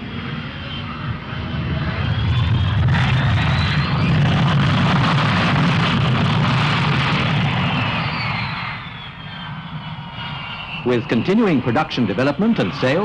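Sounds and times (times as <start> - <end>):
jet airliner passing: 0.0 - 13.0
high whine falling in pitch: 1.1 - 13.0.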